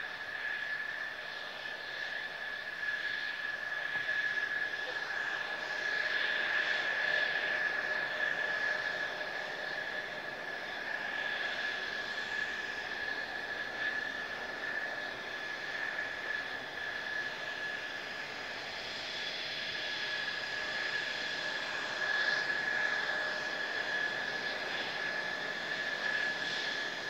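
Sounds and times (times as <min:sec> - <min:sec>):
jet engine whine: 0:00.0 - 0:27.0.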